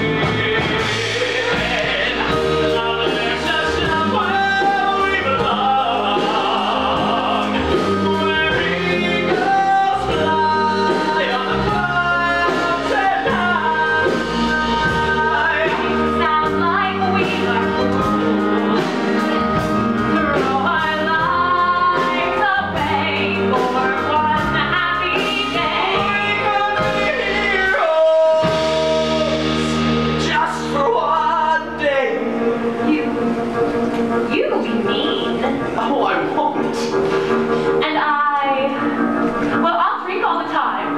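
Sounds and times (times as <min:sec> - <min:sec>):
man and woman singing duet: 0:00.0 - 0:40.9
musical accompaniment with bass: 0:00.0 - 0:40.9.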